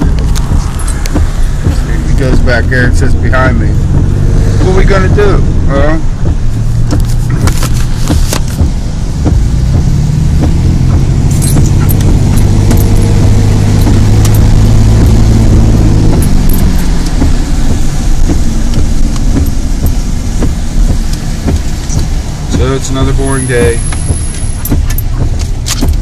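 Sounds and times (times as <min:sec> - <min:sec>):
sharp clicks and taps: 0:00.0 - 0:05.5, 0:06.2 - 0:26.0
truck engine and road rumble: 0:00.0 - 0:26.0.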